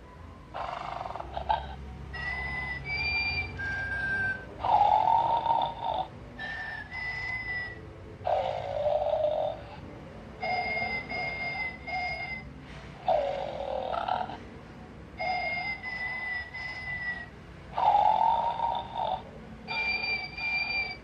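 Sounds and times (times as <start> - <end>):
toy snoring: 0.5 - 9.8, 10.4 - 12.4, 13.0 - 14.4, 15.2 - 21.0
toy whistling short notes: 0.6 - 9.7, 10.4 - 14.3, 15.2 - 21.0.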